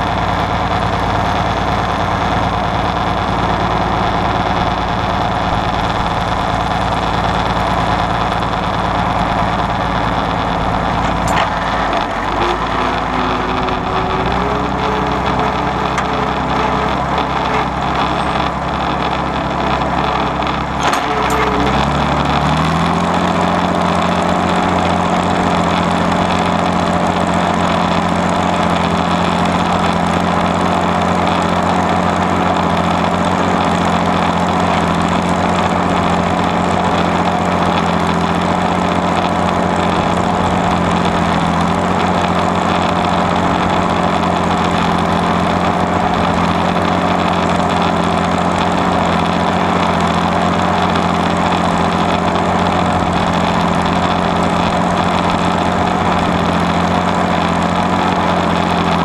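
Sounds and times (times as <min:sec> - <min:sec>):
engine knock: 0:00.0 - 0:59.0
tractor engine running: 0:00.0 - 0:59.0.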